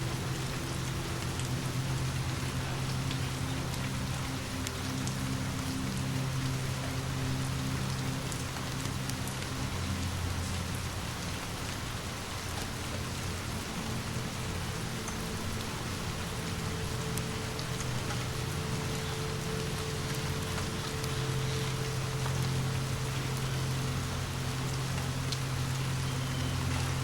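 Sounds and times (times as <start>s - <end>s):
low steady drone: 0.0s - 27.0s
steady rain falling: 0.0s - 27.0s.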